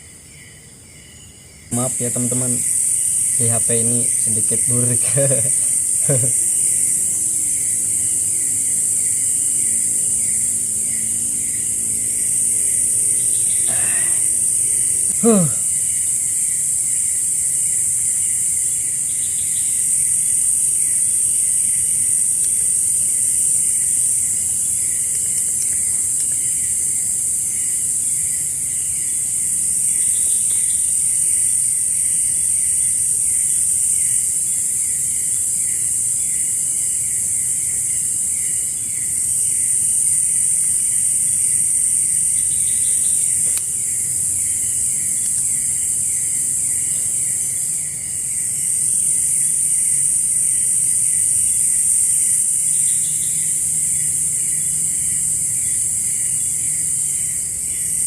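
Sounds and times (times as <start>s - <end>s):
insect chirping rapidly: 0.0s - 58.0s
insects high-pitched drone: 0.0s - 58.0s.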